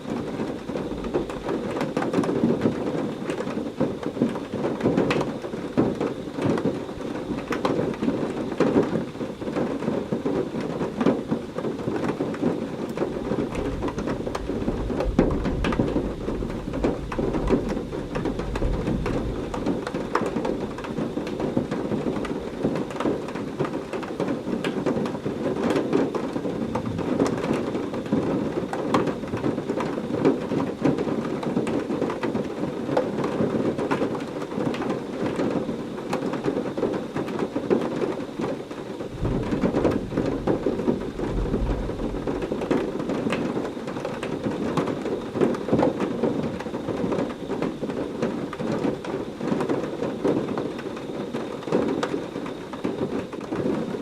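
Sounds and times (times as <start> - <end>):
low rumble of thunder: 0.0 - 32.4, 38.4 - 52.0
heavy rain falling: 0.0 - 54.0.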